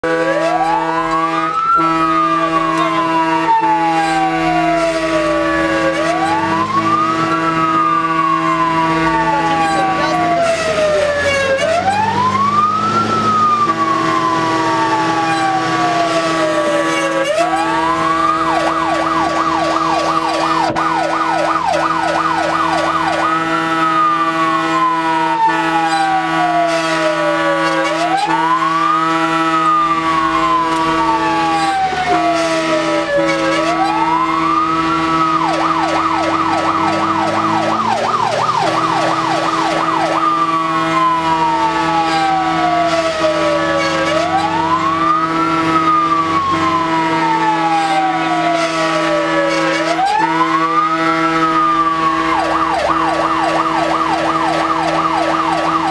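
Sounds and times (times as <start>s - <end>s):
fire engine siren wailing and yelping: 0.0s - 55.9s
truck engine running: 0.6s - 27.6s, 28.3s - 49.5s.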